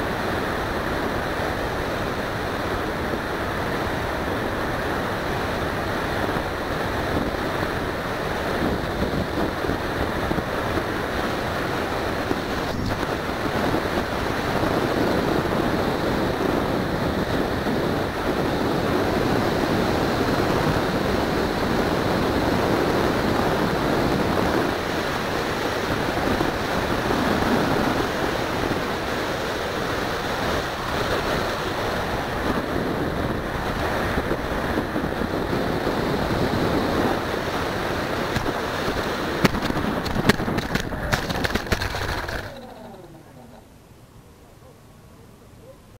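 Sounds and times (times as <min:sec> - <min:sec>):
wind noise on microphone: 0:00.0 - 0:43.2.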